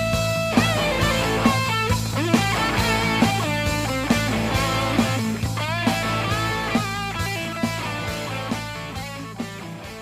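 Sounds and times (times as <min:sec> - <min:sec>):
electric guitar over a steady beat: 0:00.0 - 0:10.0.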